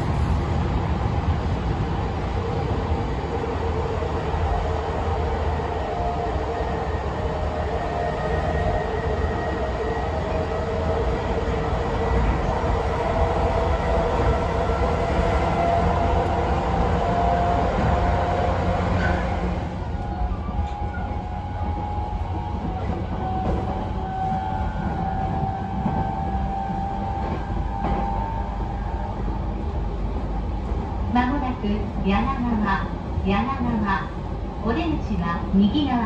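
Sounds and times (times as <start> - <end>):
train running rumble: 0.0 - 6.3, 9.4 - 36.0.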